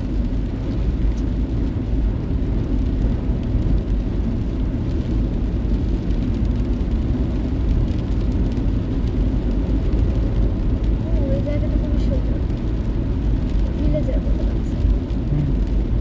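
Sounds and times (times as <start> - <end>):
car interior road noise: 0.0 - 16.0.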